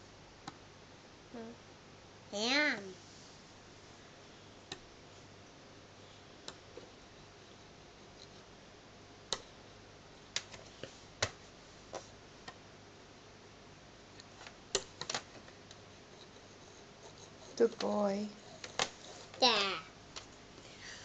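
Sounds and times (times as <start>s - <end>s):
faint room hiss: 0.0s - 21.0s.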